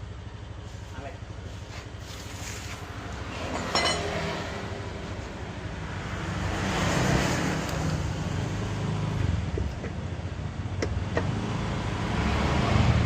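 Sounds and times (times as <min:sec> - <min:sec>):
passing vehicle engine hum: 0:00.6 - 0:13.0.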